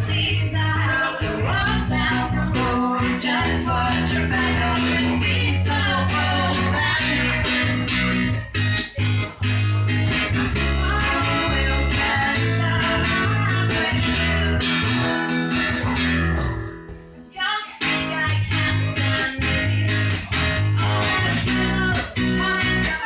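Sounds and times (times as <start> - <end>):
bass guitar rhythmic figure: 0.0 - 23.0
live band with guitars: 0.0 - 23.0.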